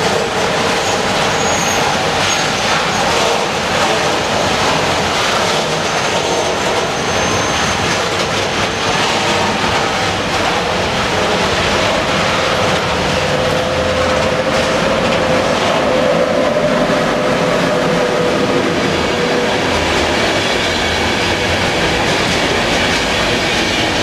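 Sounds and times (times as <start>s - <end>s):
train wheels rolling on rails: 0.0s - 24.0s.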